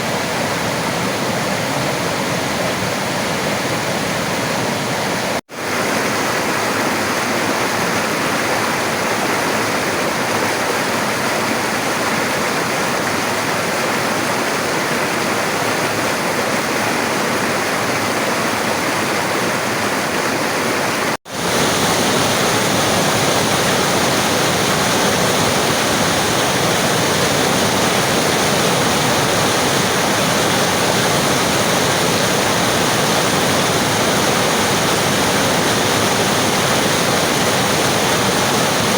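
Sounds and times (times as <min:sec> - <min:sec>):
rushing river water: 0:00.0 - 0:38.9.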